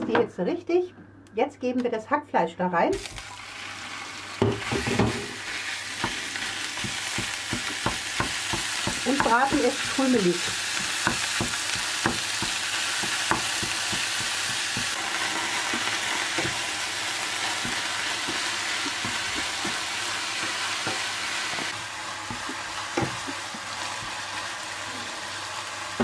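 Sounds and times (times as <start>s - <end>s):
meat sizzling in a pan: 3.1s - 26.0s.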